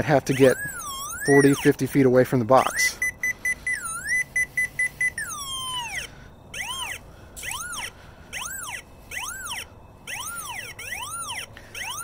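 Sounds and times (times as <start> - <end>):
wire locator tone: 0.0 - 12.0.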